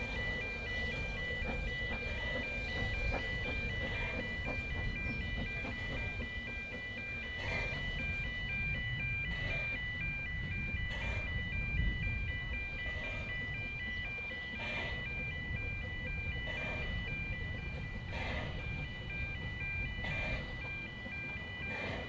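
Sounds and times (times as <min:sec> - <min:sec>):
two-tone warning alarm: 0:00.0 - 0:22.0.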